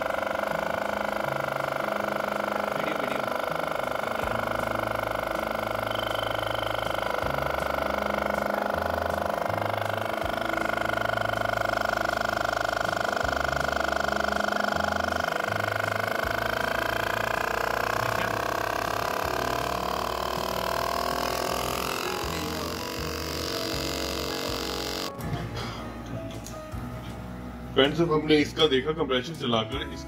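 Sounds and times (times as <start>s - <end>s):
fridge compressor whine: 0.0s - 30.0s.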